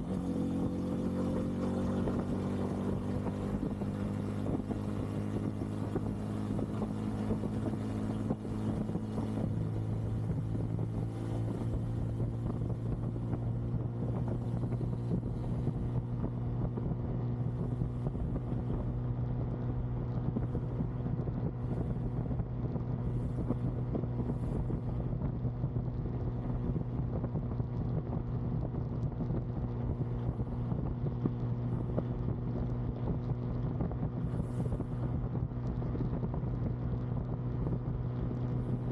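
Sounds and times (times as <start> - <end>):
motorcycle engine cruising: 0.0 - 38.9
wind buffeting microphone: 0.0 - 38.9.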